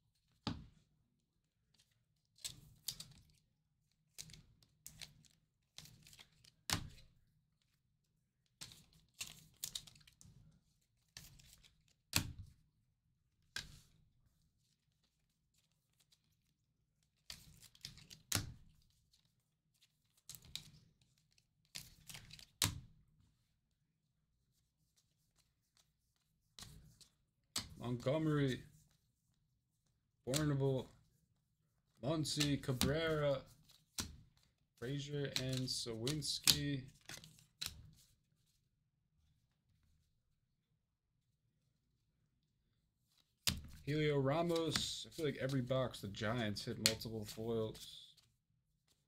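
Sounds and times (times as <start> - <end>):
cards rustling and scraping: 1.7 - 3.4, 4.0 - 7.8, 8.4 - 12.6, 13.4 - 23.6, 24.4 - 31.2, 31.8 - 38.6, 43.0 - 49.0.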